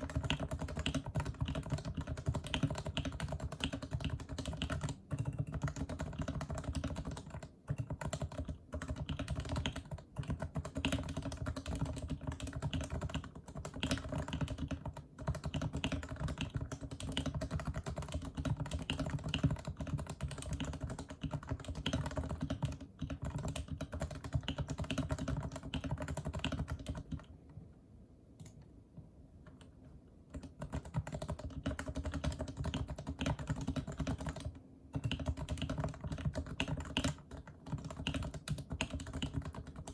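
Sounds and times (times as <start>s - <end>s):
fast keyboard typing: 0.0s - 27.3s, 30.3s - 39.9s.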